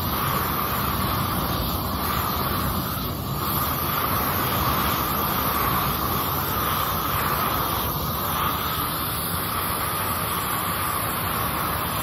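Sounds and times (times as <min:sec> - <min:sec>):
weed burner torch rushing: 0:00.0 - 0:12.0.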